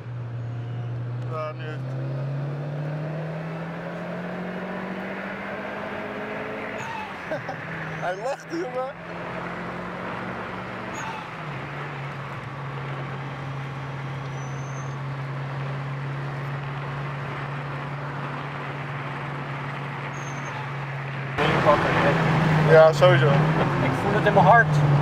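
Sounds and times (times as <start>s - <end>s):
car engine drone: 0.0s - 25.0s
tyre and road noise: 0.0s - 25.0s.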